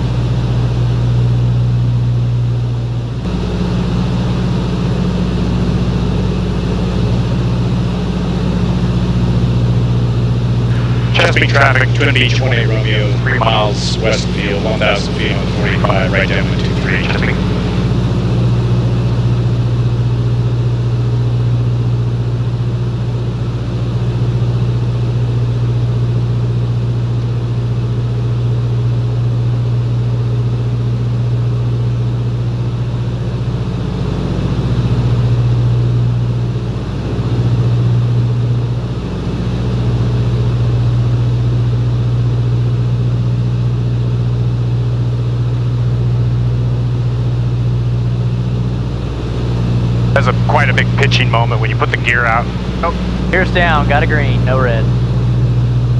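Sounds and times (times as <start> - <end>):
propeller aircraft engines droning: 0.0 - 55.9.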